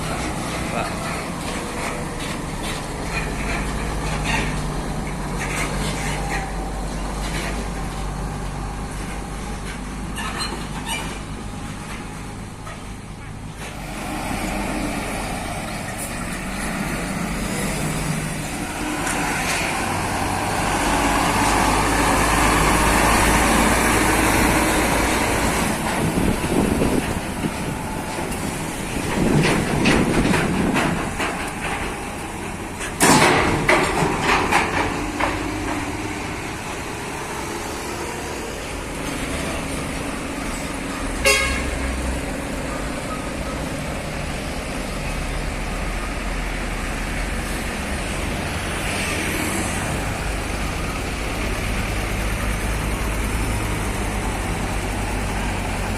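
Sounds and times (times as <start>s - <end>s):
diesel trucks running: 0.0s - 55.9s.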